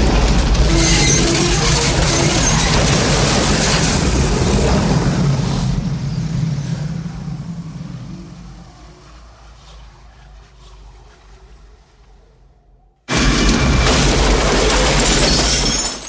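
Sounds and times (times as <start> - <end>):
loud rushing roar: 0.0 - 14.9
deep rumble: 0.0 - 15.6.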